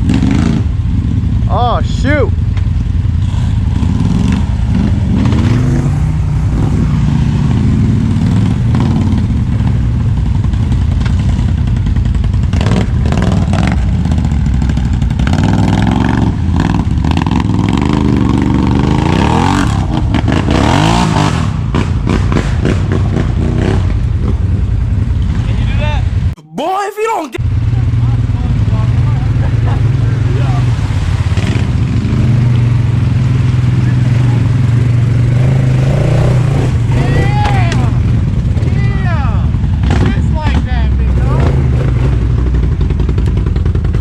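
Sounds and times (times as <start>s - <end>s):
atv engine revving: 0.0s - 26.4s, 27.4s - 44.0s.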